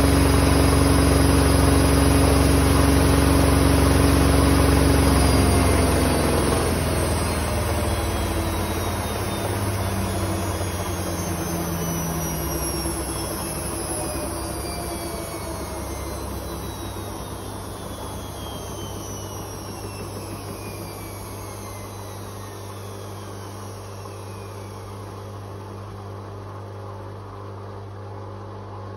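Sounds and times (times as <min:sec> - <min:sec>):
washing machine drum winding down: 0:00.0 - 0:26.6
steady low hum: 0:00.0 - 0:28.9.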